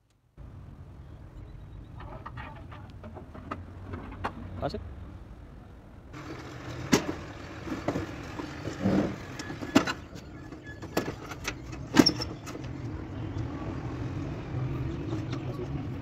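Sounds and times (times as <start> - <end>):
vehicle engine rumbling: 0.2 - 16.0.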